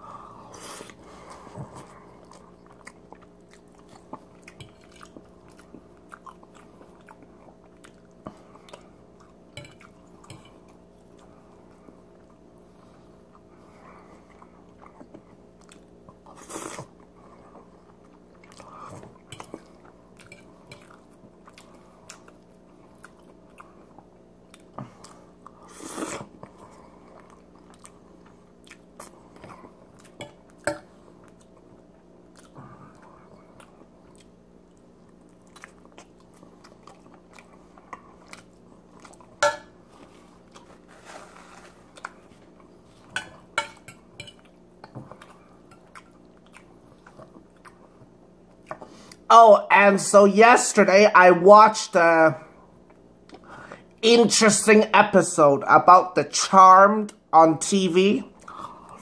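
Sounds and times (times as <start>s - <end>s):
faint steady hum: 0.0s - 59.0s
chewing: 0.6s - 12.4s, 13.2s - 49.3s.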